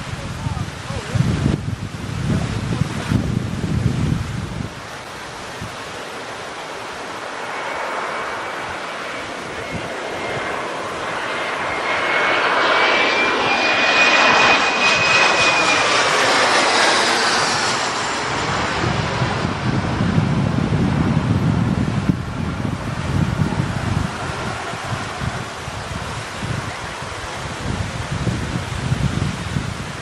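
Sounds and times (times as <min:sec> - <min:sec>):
high jet engine whine: 0:00.0 - 0:30.0
jet airliner passing overhead: 0:00.0 - 0:30.0.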